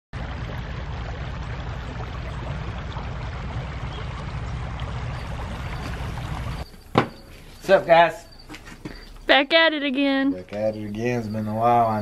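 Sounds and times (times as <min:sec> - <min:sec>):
creek water flowing: 0:00.2 - 0:12.0.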